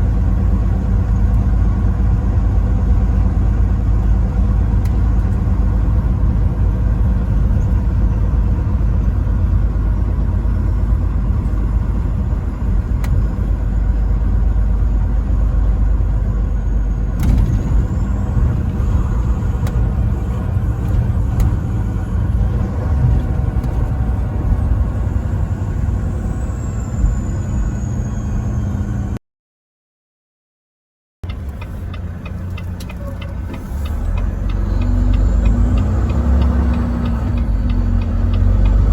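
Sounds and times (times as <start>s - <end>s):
road rumble: 0.0s - 29.2s, 31.2s - 38.9s
truck engine drone: 0.0s - 29.2s, 31.2s - 38.9s.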